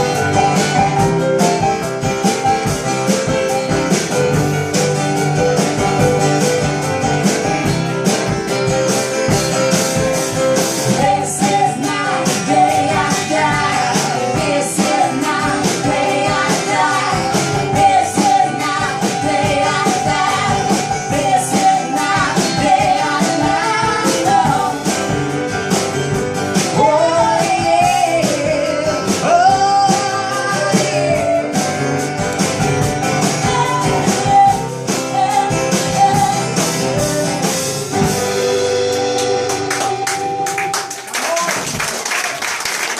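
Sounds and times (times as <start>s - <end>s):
steady drum beat: 0.0s - 40.4s
strummed guitars: 0.0s - 41.0s
roots-rock band playing: 0.0s - 41.8s.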